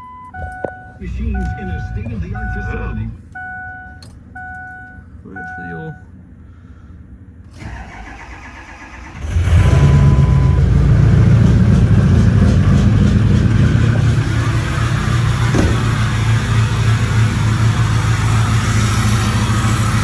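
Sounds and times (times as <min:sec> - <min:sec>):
truck engine starting and idling: 0:00.1 - 0:05.6, 0:07.3 - 0:20.0.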